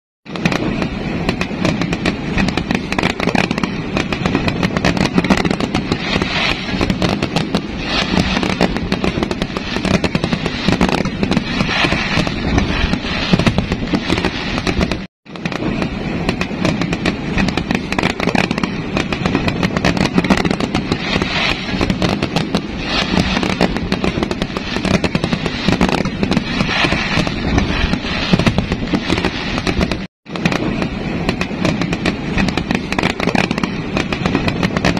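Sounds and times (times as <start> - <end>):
fireworks crackling and banging: 0.2 - 34.9.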